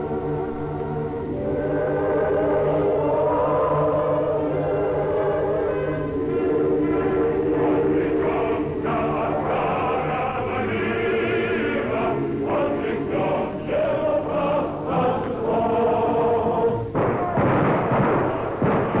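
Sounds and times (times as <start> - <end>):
choir singing with vibrato: 0.0 - 19.0.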